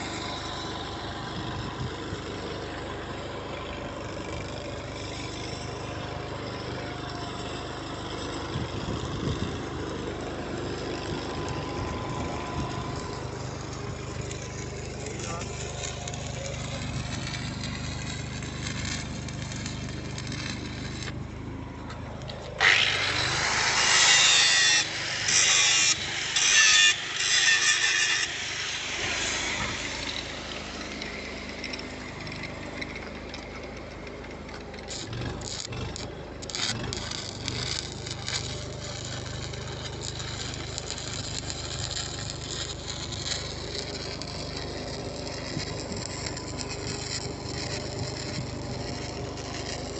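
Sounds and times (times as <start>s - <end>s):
engine running steadily: 0.0s - 49.9s
hissing crackling arc welding: 0.0s - 49.9s.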